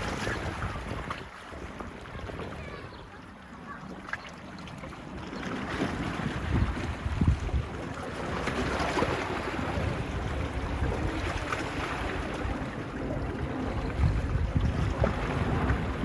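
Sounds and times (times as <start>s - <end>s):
wind buffeting microphone: 0.0s - 3.2s, 5.0s - 16.0s
waves lapping at shore: 0.0s - 16.0s.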